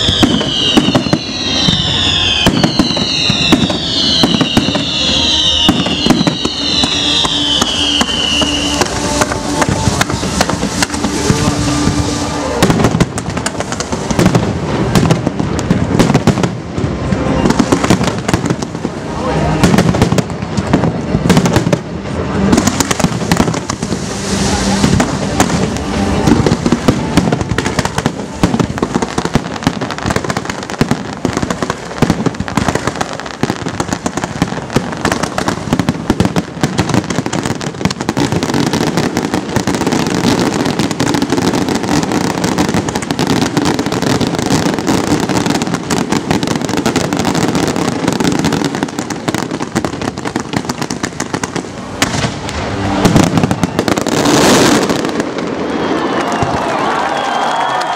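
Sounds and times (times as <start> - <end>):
fireworks bursts and bangs: 0.0 - 57.9
fireworks crackling: 0.0 - 57.9.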